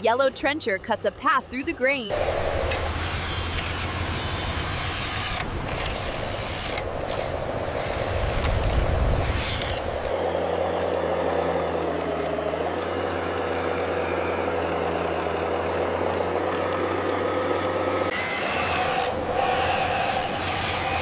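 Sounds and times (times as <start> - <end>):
machine engine running: 2.1 - 21.0.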